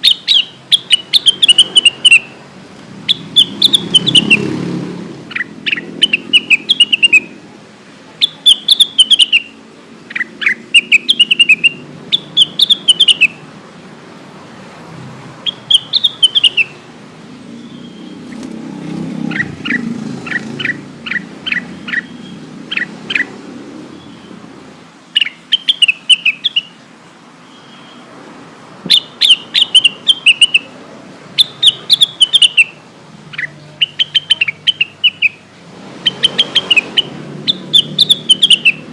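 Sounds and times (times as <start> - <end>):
bird chirping call: 0.0 - 2.4, 3.0 - 7.4, 8.2 - 13.5, 15.4 - 24.5, 25.1 - 28.2, 28.8 - 30.8, 31.4 - 38.9.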